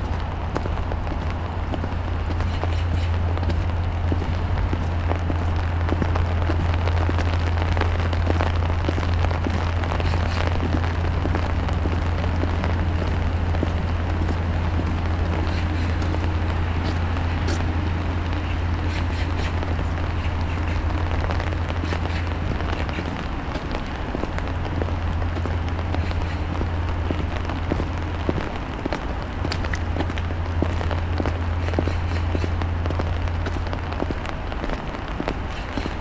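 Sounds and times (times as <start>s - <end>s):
footsteps on wet path: 0.0s - 36.0s
low rumble: 0.0s - 36.0s
rain and sleet falling: 0.0s - 36.0s.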